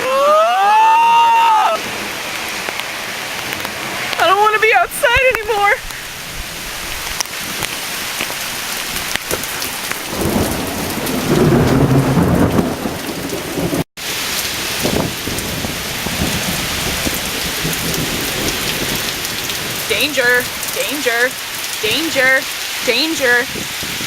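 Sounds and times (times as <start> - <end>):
heavy rain pouring: 0.0 - 24.0
thunder rumble: 1.3 - 22.0.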